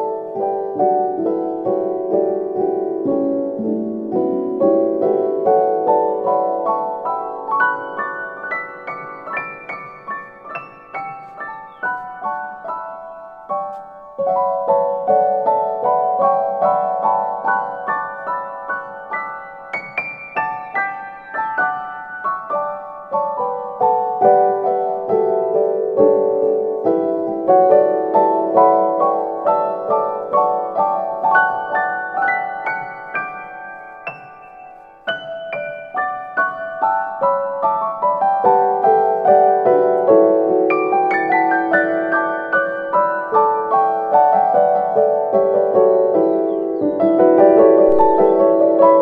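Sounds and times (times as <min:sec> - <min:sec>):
gentle keyboard melody: 0:00.0 - 0:49.0
piano single notes: 0:00.0 - 0:49.0.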